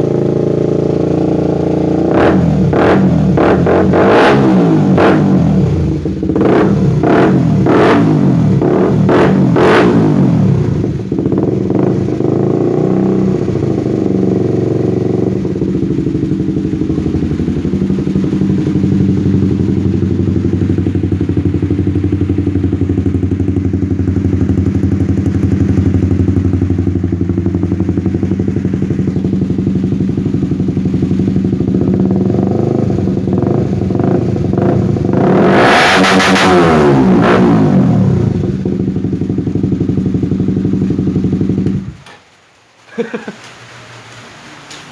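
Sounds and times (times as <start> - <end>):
motorcycle engine idling: 0.0 - 35.4, 36.6 - 42.2
motorcycle engine revving: 0.0 - 42.2.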